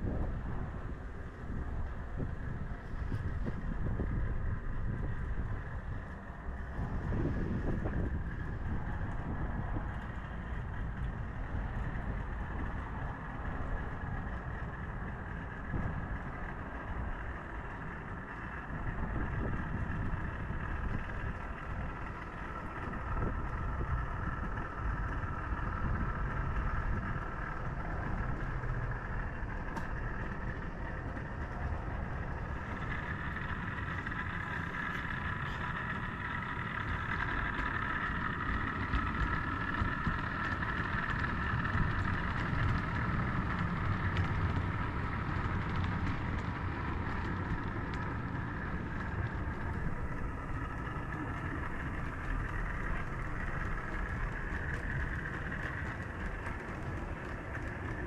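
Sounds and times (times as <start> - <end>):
model train rumbling on track: 0.0 - 58.0
motor whine: 0.0 - 58.0.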